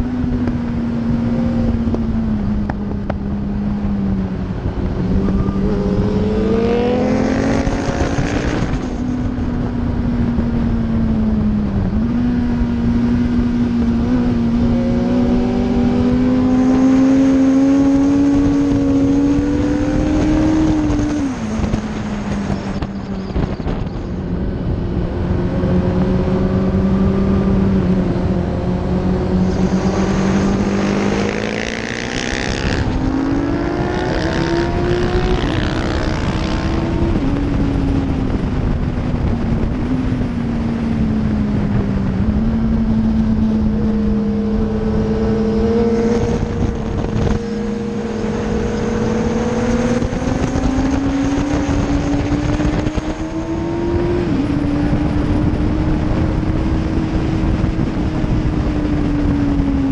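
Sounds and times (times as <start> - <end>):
wind rush over microphone: 0.0 - 59.9.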